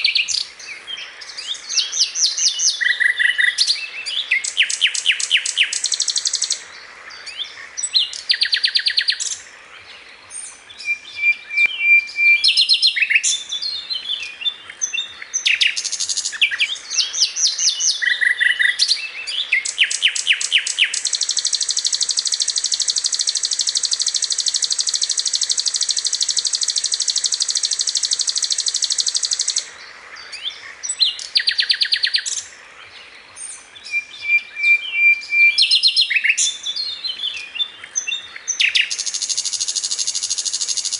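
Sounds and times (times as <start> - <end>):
bird singing rapid chattering trills: 0.0 - 6.6, 7.2 - 40.9.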